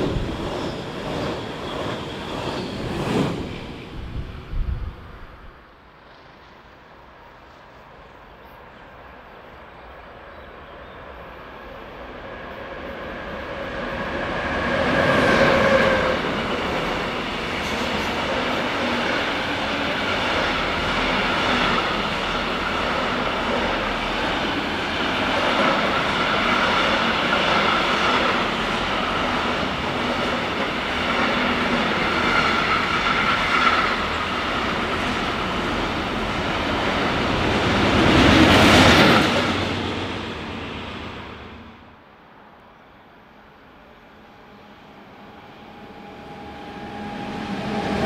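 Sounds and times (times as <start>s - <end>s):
train wheels on rails: 0.0s - 10.0s, 11.0s - 41.8s, 44.4s - 48.0s.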